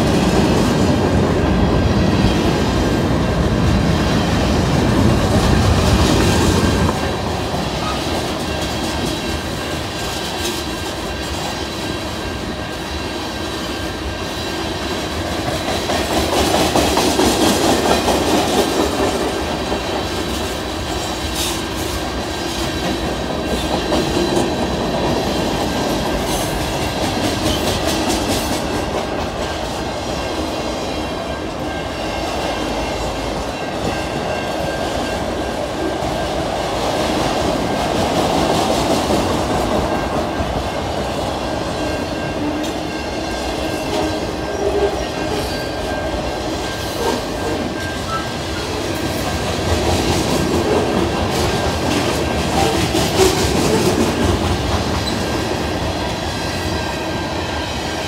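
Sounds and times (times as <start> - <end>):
train wheels clickety-clack: 0.0 - 58.0.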